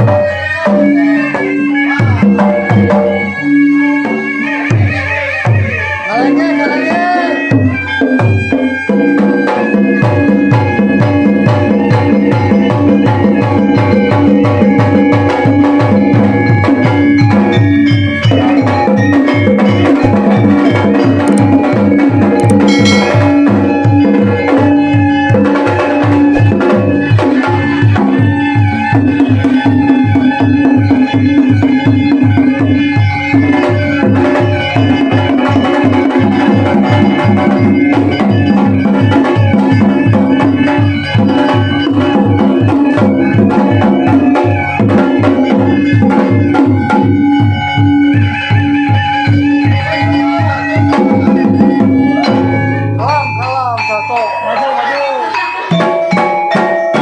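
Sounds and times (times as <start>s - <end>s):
hand drums beating: 0.0s - 57.0s
ringing metal percussion: 0.0s - 57.0s.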